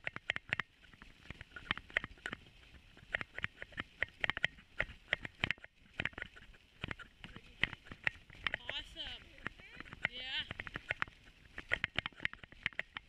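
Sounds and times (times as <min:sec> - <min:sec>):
sled frame clicks and creaks: 0:00.0 - 0:13.0.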